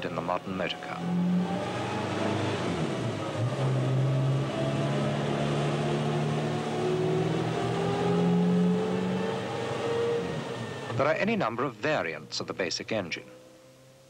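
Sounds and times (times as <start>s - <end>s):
car engine running: 0.0s - 13.5s.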